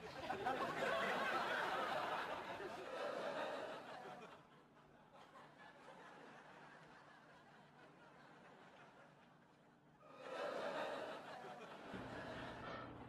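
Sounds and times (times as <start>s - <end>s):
laughter: 0.0s - 13.0s.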